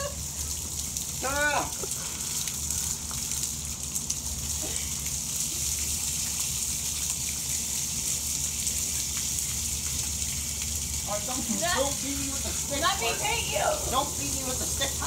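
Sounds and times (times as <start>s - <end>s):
garden hose running water: 0.0s - 15.0s.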